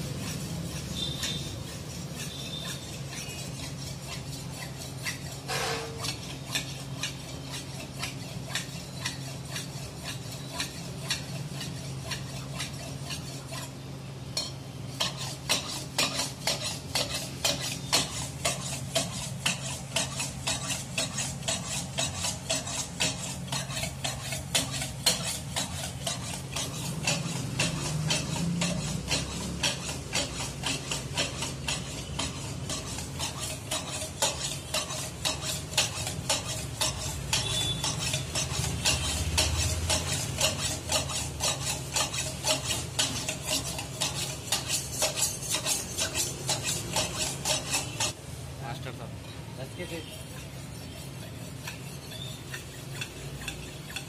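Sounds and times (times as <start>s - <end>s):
cleaver scraping on sharpening stone: 0.0s - 48.2s, 49.8s - 54.0s.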